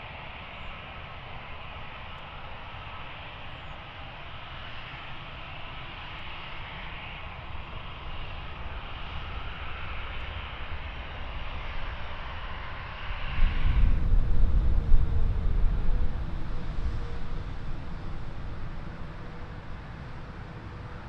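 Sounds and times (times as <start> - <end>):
jet airliner engine: 0.0 - 21.0.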